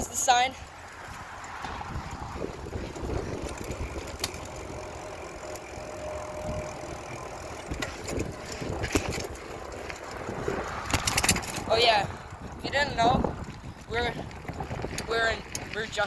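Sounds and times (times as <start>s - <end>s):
sharp clicks and rattles: 0.0s - 16.0s
traffic rumble: 0.0s - 16.0s.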